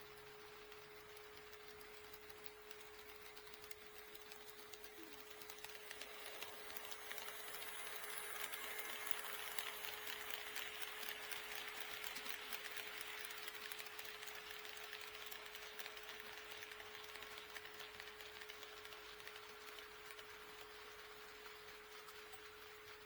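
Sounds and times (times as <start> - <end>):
model train wheels rattling: 0.0 - 23.0
steady faint hum: 0.4 - 23.0.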